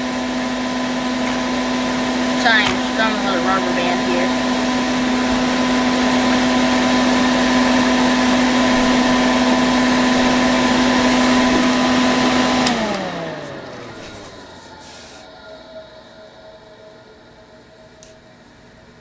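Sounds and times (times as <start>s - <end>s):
furnace fan motor hum: 0.0s - 19.0s.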